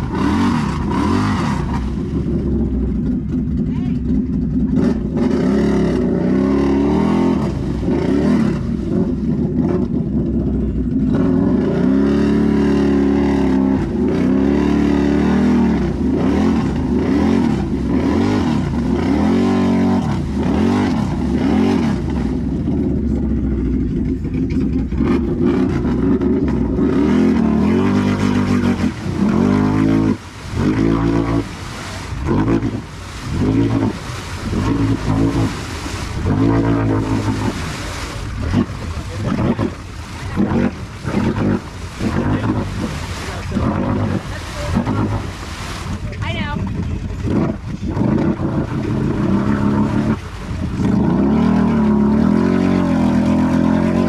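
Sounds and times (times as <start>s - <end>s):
engine revving hard: 0.0s - 3.4s, 4.1s - 46.5s, 47.2s - 54.0s.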